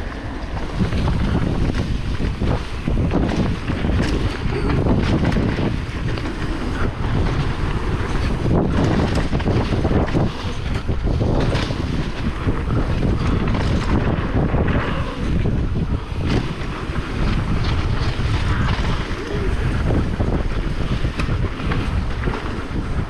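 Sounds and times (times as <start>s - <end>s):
bike rolling on dirt trail: 0.0s - 23.0s
wind buffeting microphone: 0.0s - 23.0s.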